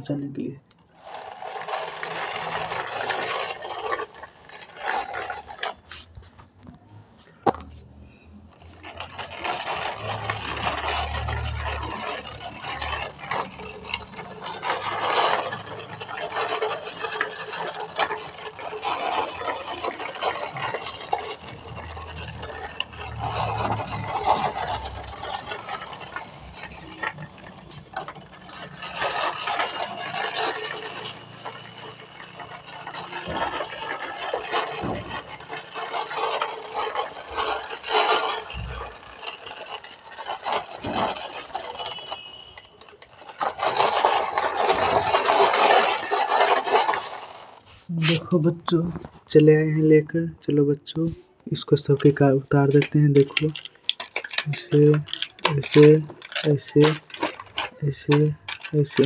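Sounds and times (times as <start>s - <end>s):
toy truck wheels scraping concrete: 0.0s - 59.0s.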